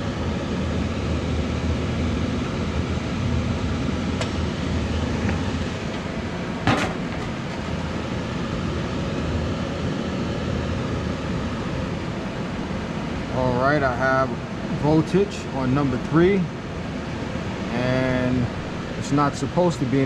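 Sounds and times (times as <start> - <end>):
furnace blower motor running: 0.0 - 20.0.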